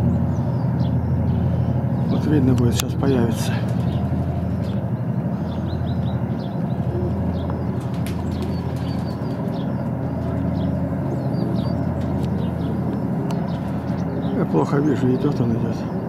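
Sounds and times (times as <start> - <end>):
birds chirping: 0.0 - 16.0
distant freight train rumbling: 0.0 - 16.0.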